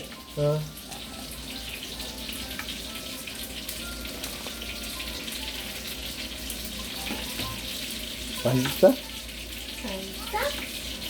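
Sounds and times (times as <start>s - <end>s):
cutlets frying in hot oil: 0.0s - 11.0s.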